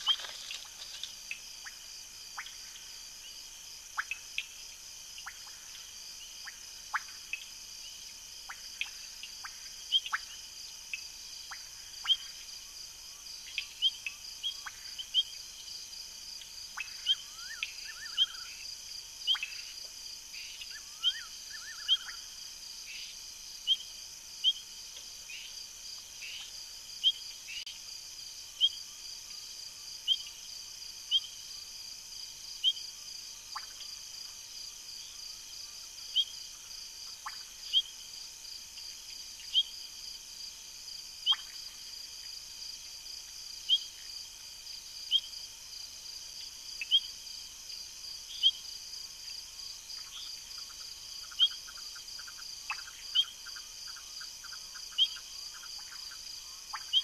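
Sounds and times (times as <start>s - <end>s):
frogs and insects droning: 0.0s - 57.0s.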